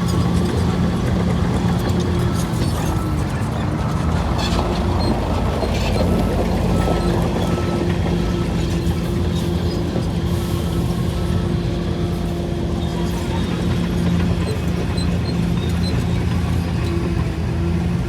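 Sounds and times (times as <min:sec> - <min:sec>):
bulldozer diesel engine under load: 0:00.0 - 0:18.0.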